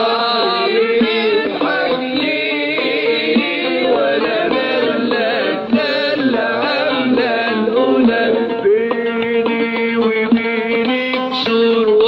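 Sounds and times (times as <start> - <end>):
man singing ornamented melody: 0.0 - 12.0
plucked oud: 0.0 - 12.0.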